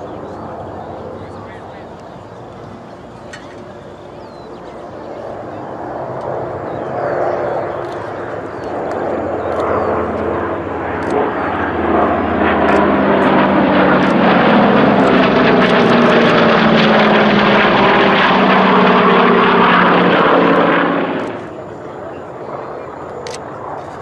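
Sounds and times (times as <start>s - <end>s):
propeller aircraft flying past: 0.0s - 24.0s.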